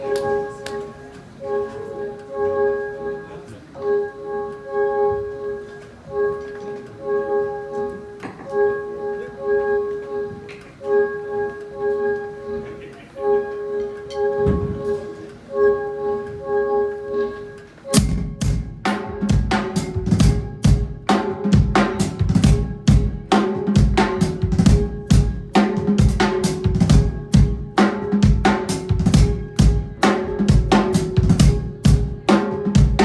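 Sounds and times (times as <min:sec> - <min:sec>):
keyboard playing chords: 0:00.0 - 0:33.0.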